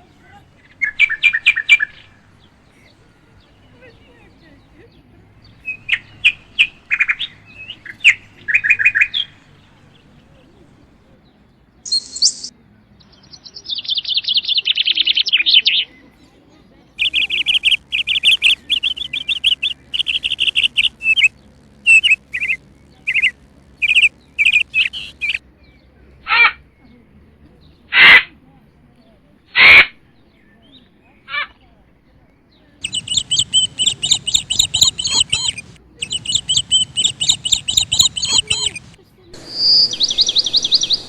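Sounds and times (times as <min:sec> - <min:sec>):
small birds chirping and singing: 0:00.0 - 0:27.9, 0:30.1 - 0:41.0.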